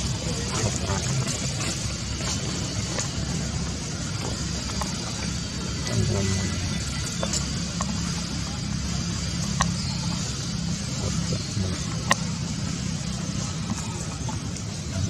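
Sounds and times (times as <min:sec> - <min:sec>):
faint high whine: 0:00.0 - 0:15.0
low engine-like hum: 0:00.0 - 0:15.0.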